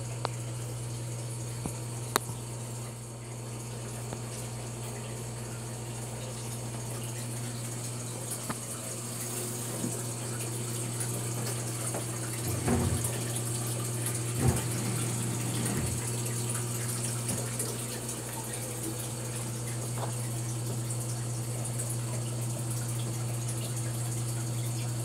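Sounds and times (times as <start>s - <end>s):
water pump humming: 0.0s - 25.0s
water running: 0.0s - 25.0s.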